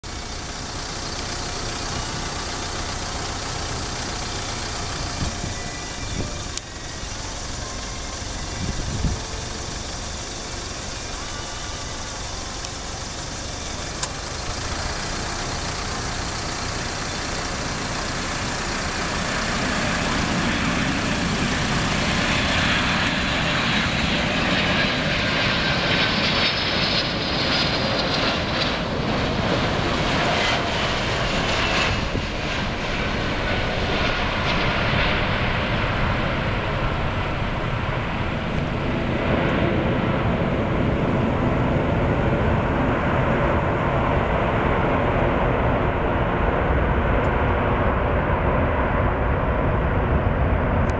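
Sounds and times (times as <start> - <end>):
jet engines roaring and whining: 0.0 - 50.9
jet rumbling on runway: 0.0 - 50.9.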